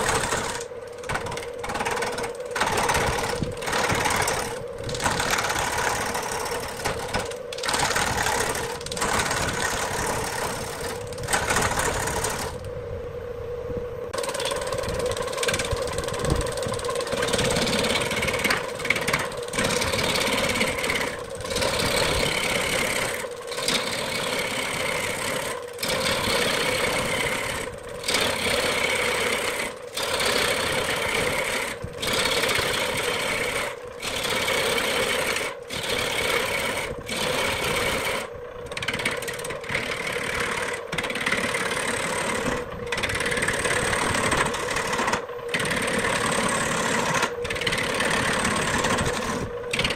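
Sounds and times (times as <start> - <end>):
turning tool scraping wood: 0.0 - 12.7, 14.2 - 49.9
lathe motor hum: 0.0 - 12.8, 14.1 - 49.9.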